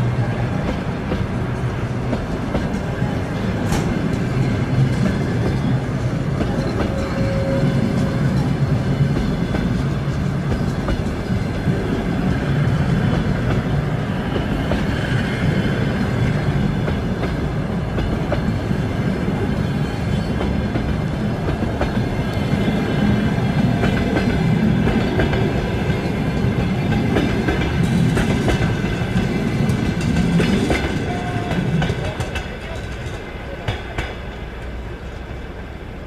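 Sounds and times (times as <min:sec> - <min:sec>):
train coaches rumbling past: 0:00.0 - 0:36.0
wheels clacking over rail joints: 0:00.1 - 0:35.2.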